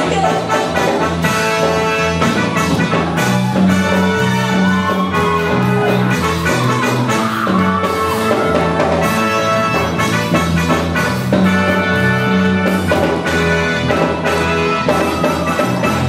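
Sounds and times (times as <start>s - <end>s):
bass: 0.0s - 16.0s
drums: 0.0s - 16.0s
sustained lead melody: 0.0s - 16.0s.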